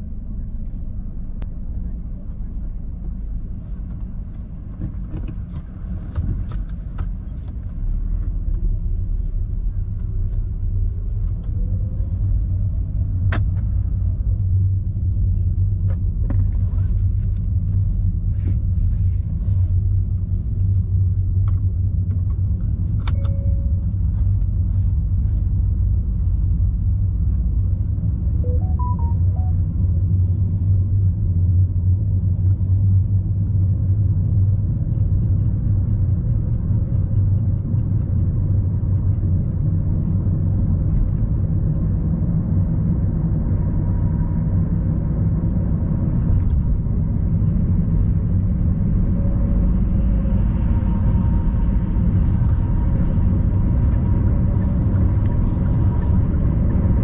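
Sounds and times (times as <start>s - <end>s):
car rumble from inside cabin: 0.0s - 57.0s.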